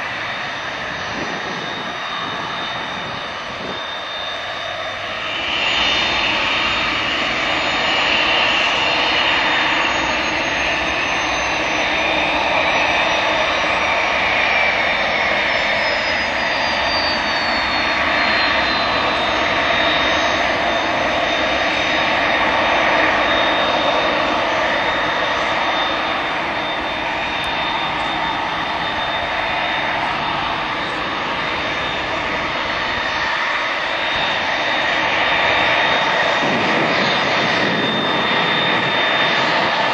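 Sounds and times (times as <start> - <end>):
high jet whine: 0.0 - 39.9
jet engines running: 0.0 - 39.9.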